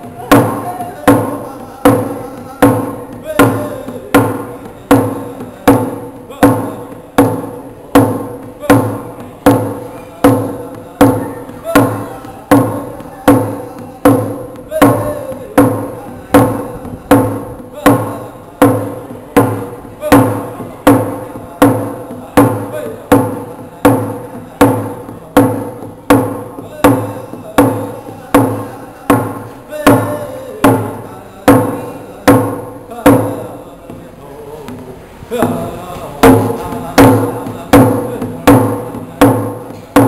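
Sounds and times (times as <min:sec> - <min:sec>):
frame hand drum beat: 0:00.0 - 0:40.0
man singing: 0:00.0 - 0:40.0.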